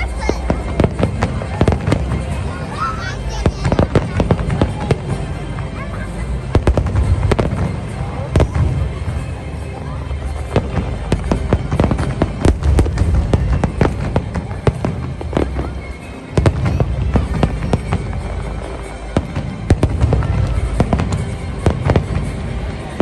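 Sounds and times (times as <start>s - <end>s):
fireworks cracks and bangs: 0.0s - 23.0s.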